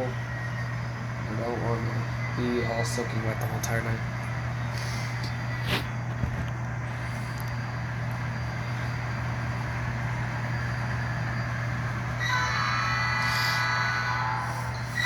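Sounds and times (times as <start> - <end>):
diesel engine idle hum: 0.0 - 15.0.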